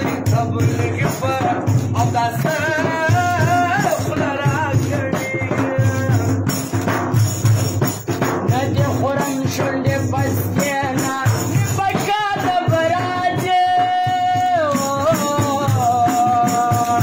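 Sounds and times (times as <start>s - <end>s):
man singing: 0.0s - 6.7s, 8.4s - 17.0s
frame drum with jingles: 0.0s - 17.0s.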